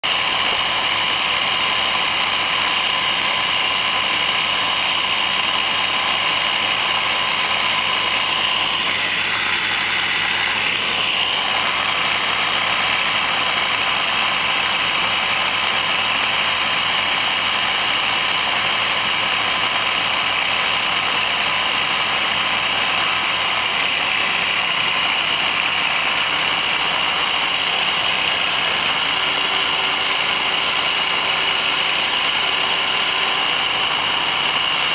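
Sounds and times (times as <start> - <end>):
mud motor engines running: 0.0 - 34.9.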